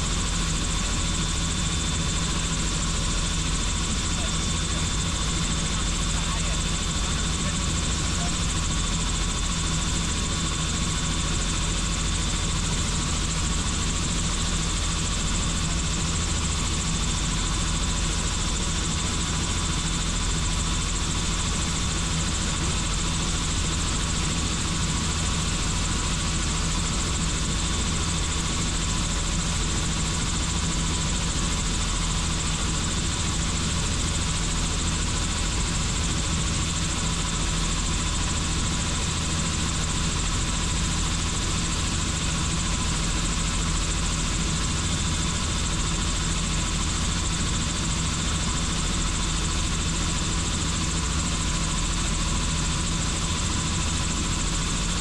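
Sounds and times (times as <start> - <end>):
helicopter in flight: 0.0 - 55.0.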